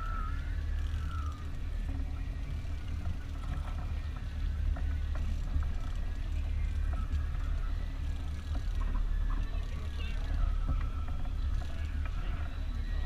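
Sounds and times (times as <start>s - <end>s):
boat engine rumble: 0.0s - 13.0s
faint clicks: 0.0s - 13.0s
wind buffeting microphone: 0.0s - 13.0s.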